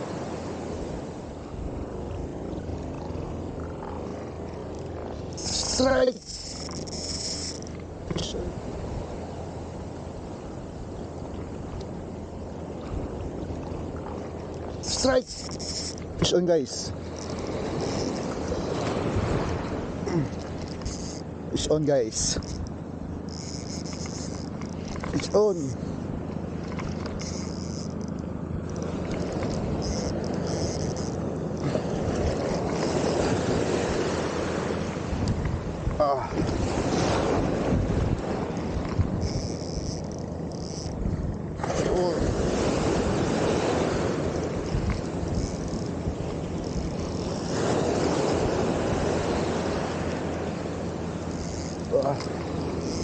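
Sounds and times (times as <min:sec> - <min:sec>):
low steady hum: 0:00.0 - 0:53.0
surf washing in shallows: 0:00.0 - 0:53.0
wind buffeting microphone: 0:00.0 - 0:53.0.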